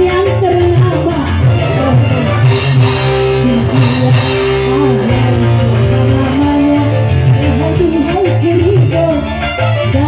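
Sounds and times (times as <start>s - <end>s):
live band music: 0.0s - 10.0s
woman singing into a microphone: 0.0s - 10.0s.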